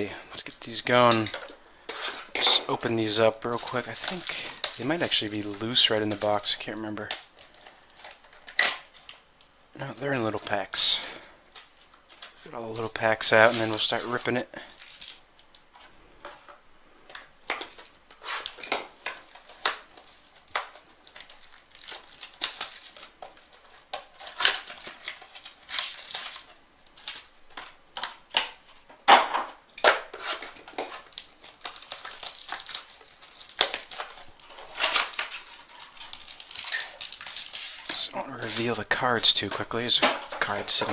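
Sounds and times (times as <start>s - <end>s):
packaging crinkling and rustling: 0.0s - 40.9s.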